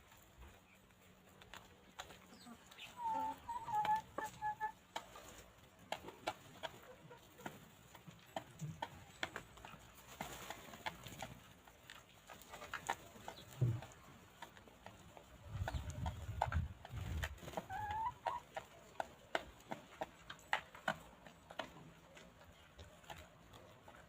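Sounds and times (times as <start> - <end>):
chickens pecking ground: 0.0 - 24.0.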